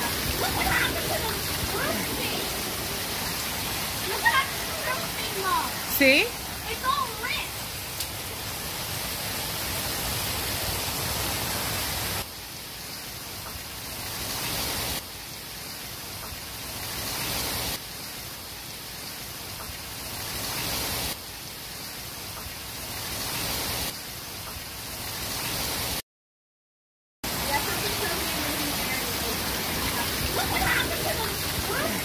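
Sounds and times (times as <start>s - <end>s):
heavy rain and hail: 0.0s - 26.0s, 27.3s - 32.0s.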